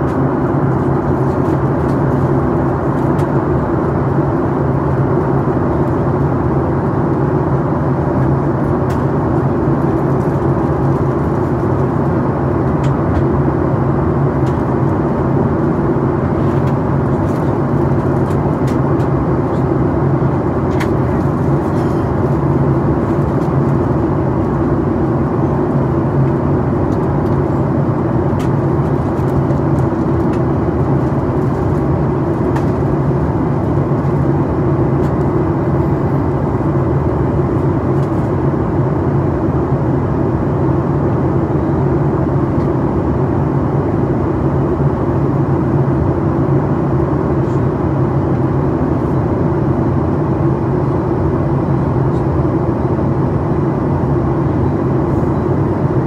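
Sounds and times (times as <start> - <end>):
jet engine hum: 0.0 - 56.0.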